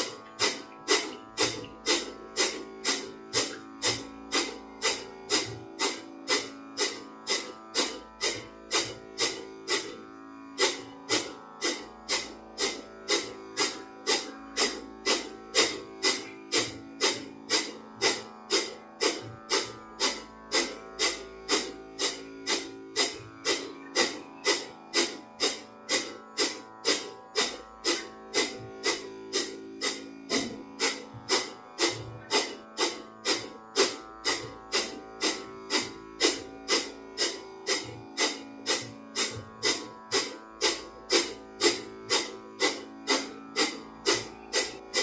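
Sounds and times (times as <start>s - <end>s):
soft music with plucked strings: 0.0s - 45.0s.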